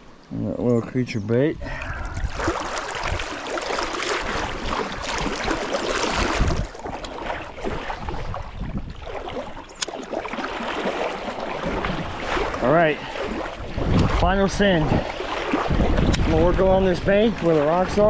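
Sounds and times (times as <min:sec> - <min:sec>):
wind buffeting microphone: 0:01.5 - 0:18.0.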